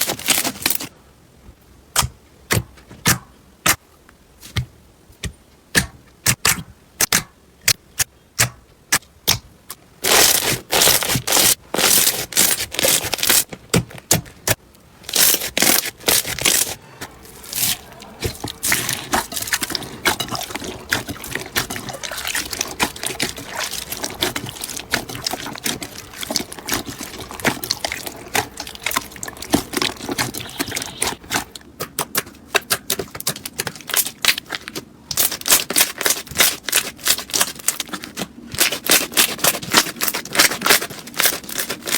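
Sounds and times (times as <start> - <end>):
slime wet crackling and popping: 5.7 - 41.9.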